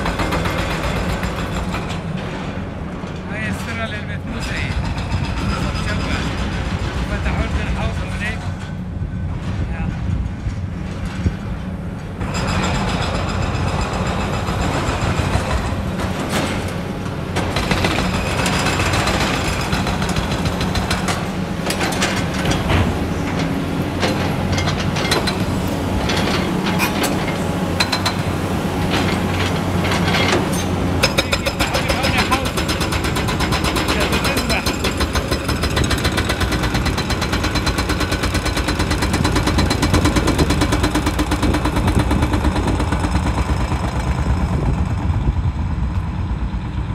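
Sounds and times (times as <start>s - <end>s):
excavator buckets clanking and scraping: 0.0s - 44.9s
diesel engines running: 0.0s - 46.9s.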